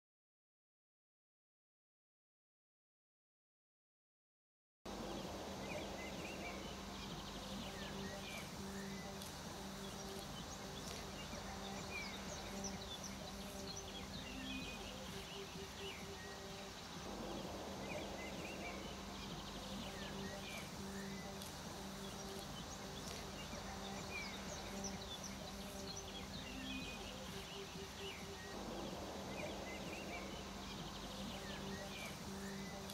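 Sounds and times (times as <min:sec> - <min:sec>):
low pulsing hum: 0:04.9 - 0:32.9
small birds chirping: 0:04.9 - 0:32.9.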